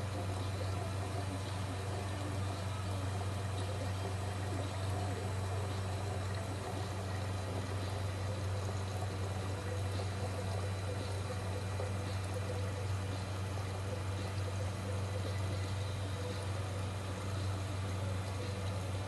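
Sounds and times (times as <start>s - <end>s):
water trickling and gurgling: 0.0s - 19.0s.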